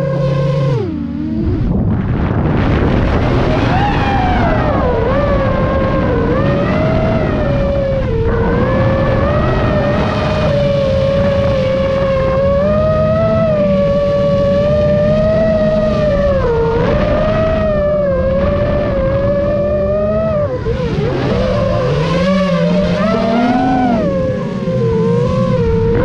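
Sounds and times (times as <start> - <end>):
heavy wind rush: 0.0 - 26.0
motor and propeller whine: 0.0 - 26.0.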